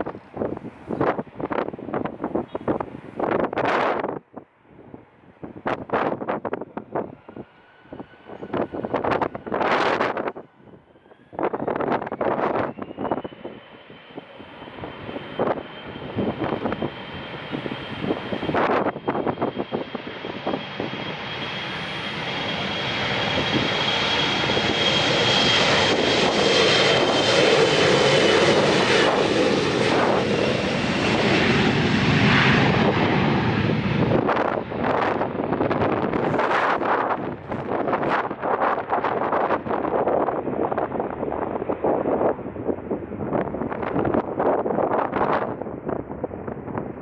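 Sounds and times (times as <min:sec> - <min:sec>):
jet airliner engines: 0:00.0 - 0:47.0
wind buffeting microphone: 0:00.0 - 0:47.0.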